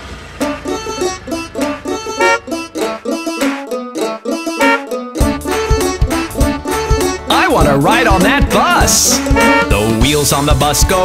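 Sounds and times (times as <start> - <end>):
plucked string melody: 0.4 - 11.0.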